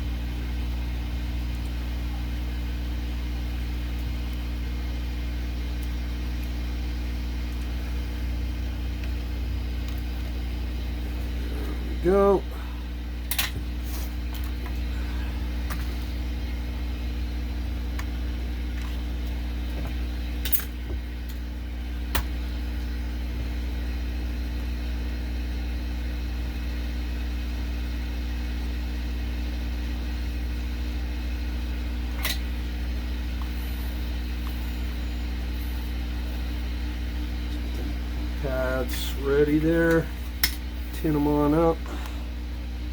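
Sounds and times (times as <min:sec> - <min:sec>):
electrical hum and fan drone: 0:00.0 - 0:42.9.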